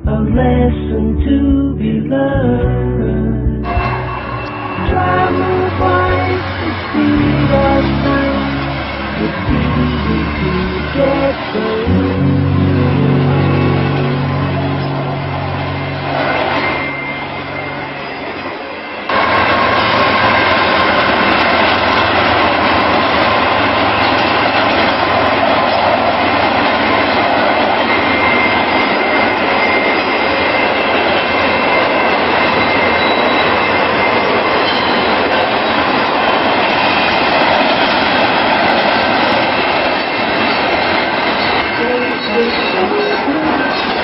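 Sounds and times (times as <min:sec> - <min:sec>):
high squealing tones: 0:03.6 - 0:44.0
train wheels on rails: 0:03.7 - 0:44.0.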